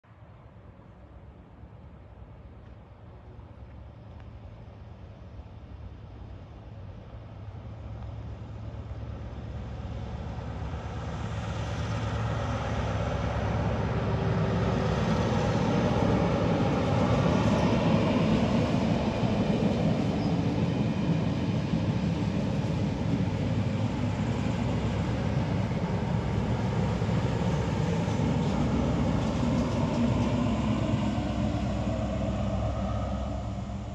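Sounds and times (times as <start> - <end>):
train rumbling on rails: 0.2 - 33.9
diesel train engine: 0.4 - 33.9.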